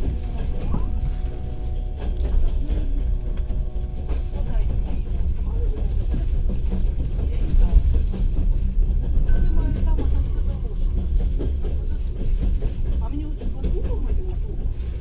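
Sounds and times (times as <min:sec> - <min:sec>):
train carriage rumbling on track: 0:00.0 - 0:15.0.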